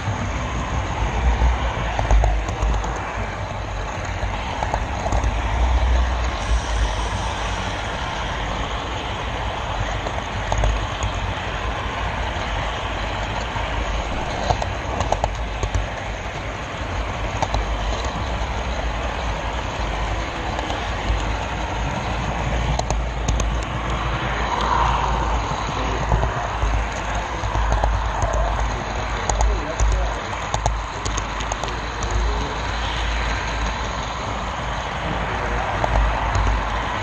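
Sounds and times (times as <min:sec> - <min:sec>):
clicks at rail joints: 0:00.0 - 0:37.0
model train wheels rumbling: 0:00.0 - 0:37.0.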